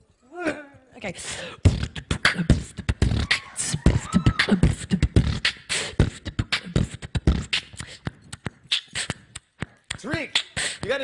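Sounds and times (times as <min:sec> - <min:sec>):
woman beatboxing: 0:01.0 - 0:11.0.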